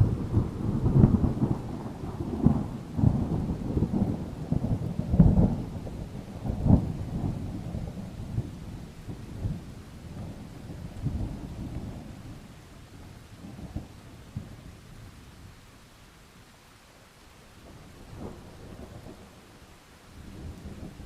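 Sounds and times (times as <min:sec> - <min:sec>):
thunder rumbling: 0:00.0 - 0:15.5, 0:17.6 - 0:19.4, 0:20.2 - 0:21.0
rain: 0:00.0 - 0:21.0.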